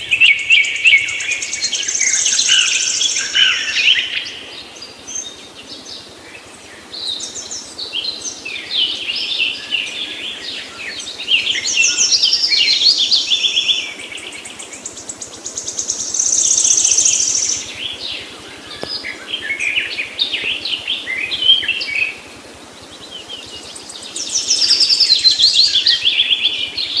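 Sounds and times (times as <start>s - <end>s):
songbirds singing and chirping: 0.0s - 27.0s.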